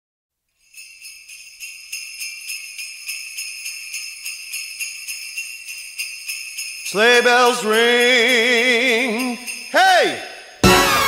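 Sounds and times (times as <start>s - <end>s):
sleigh bells shaken: 0.5s - 11.0s.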